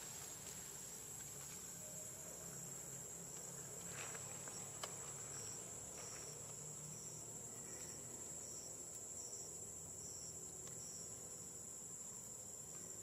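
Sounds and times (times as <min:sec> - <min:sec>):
insects trilling: 0:00.0 - 0:13.0
short insect chirp: 0:00.0 - 0:13.0.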